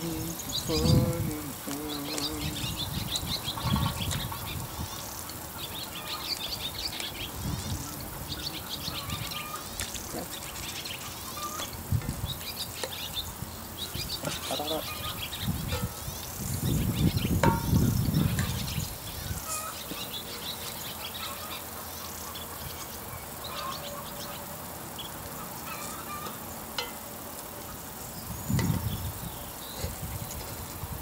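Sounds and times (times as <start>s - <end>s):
bird or insect chirps: 0.0s - 31.0s.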